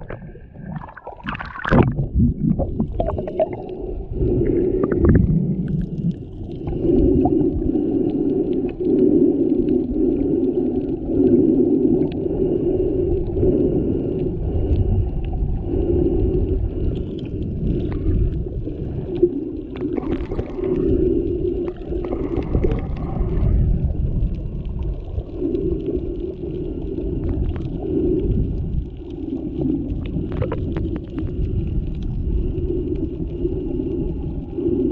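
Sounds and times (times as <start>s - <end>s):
muffled underwater hum: 0.0s - 34.9s
underwater moving water rumble: 0.0s - 34.9s.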